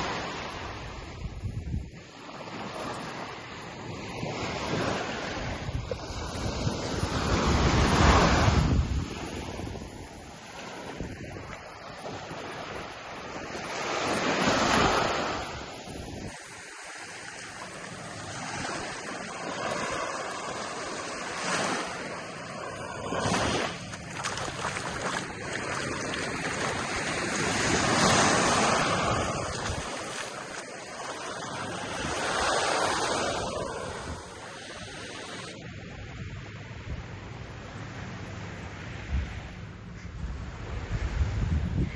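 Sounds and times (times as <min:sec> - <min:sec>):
waves breaking on beach: 0:00.0 - 0:36.2.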